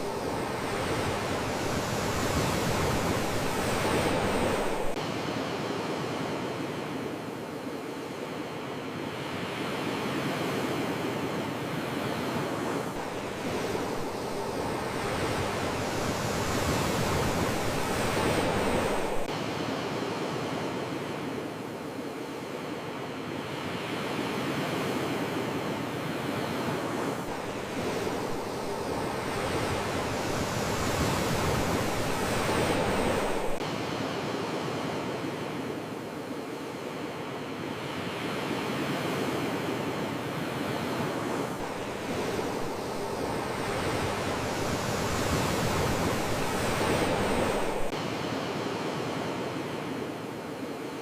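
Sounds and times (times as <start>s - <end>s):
sea waves washing onto shore: 0.0s - 22.8s, 24.1s - 51.0s.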